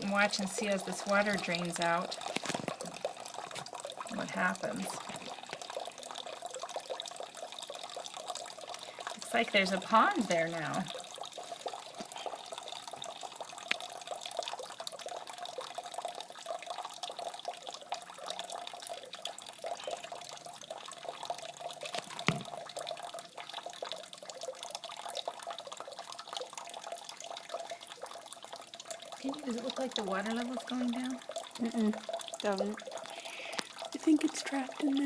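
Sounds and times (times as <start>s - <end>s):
water trickling from bottle: 0.0s - 35.0s.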